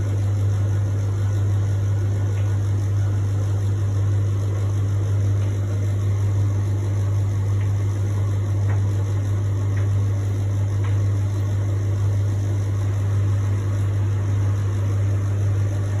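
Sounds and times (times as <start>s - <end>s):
appliance humming and whirring: 0.0s - 16.0s.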